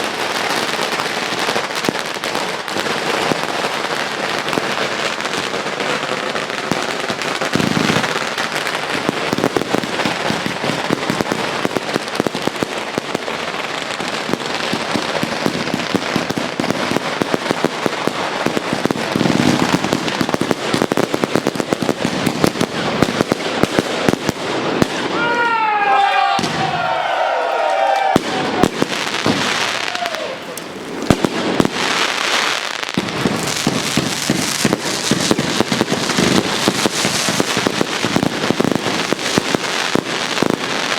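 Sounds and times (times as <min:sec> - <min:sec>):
sharp firework cracks: 0:00.0 - 0:25.5, 0:26.3 - 0:40.9
fireworks crackling: 0:00.0 - 0:40.9
deep firework booms: 0:04.4 - 0:25.2, 0:26.4 - 0:27.0, 0:28.1 - 0:40.9.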